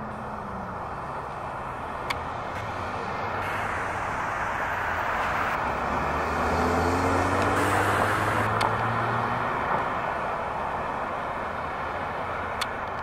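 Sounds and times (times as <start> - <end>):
road traffic noise: 0.0 - 13.0
vehicle engine hum: 0.0 - 13.0.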